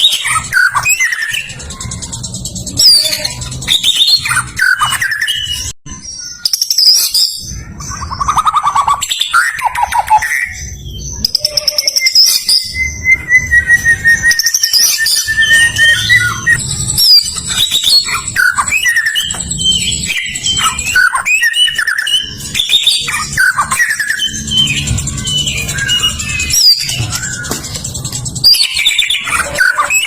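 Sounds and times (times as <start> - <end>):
bird whistling and trilling: 0.0 - 30.0.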